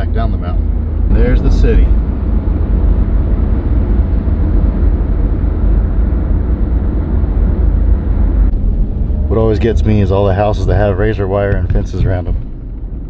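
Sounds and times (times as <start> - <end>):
car cabin road rumble: 0.0 - 13.0.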